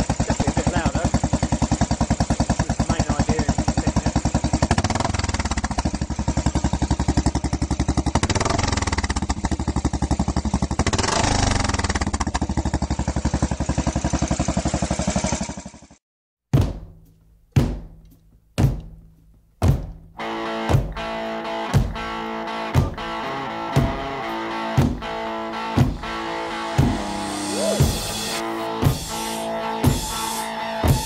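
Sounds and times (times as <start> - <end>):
motorcycle engine running: 0.0 - 16.0, 20.2 - 31.0.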